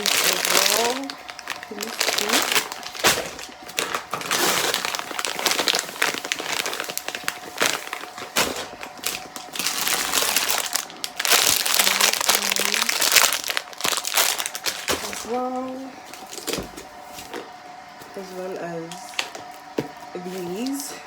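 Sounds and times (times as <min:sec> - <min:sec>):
plastic sweet packets crinkling: 0:00.0 - 0:17.4.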